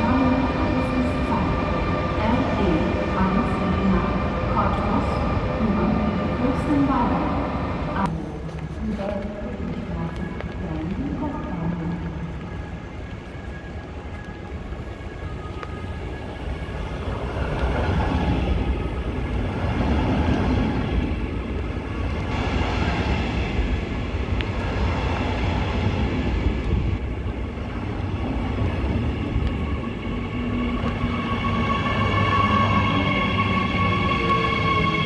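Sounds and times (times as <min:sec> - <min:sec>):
train passing close by: 0:00.0 - 0:35.0.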